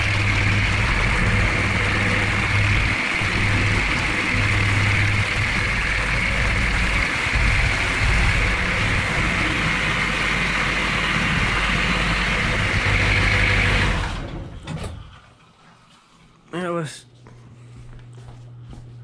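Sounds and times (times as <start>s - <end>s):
diesel engine idling and shutting off: 0.0s - 15.3s.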